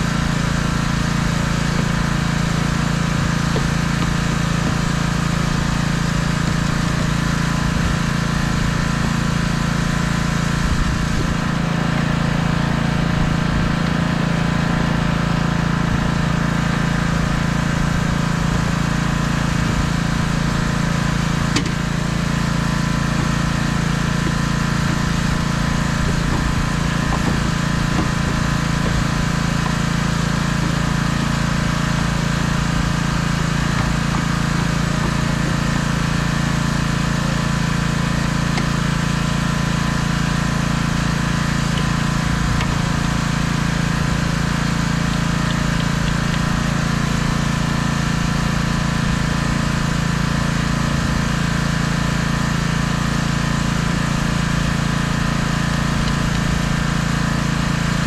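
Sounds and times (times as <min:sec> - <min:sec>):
pressure washer engine running: 0:00.0 - 0:58.0.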